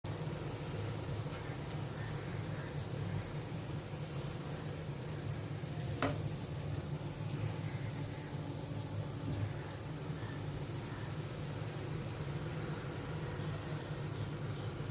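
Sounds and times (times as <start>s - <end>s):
prawns sizzling in a pan: 0.0s - 14.9s.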